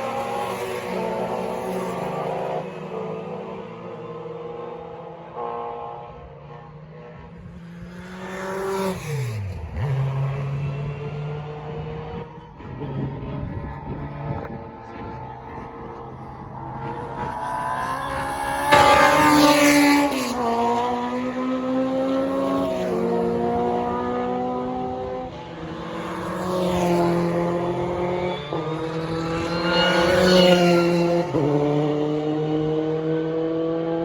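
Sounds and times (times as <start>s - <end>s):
racing cars passing at full throttle: 0.0s - 34.0s.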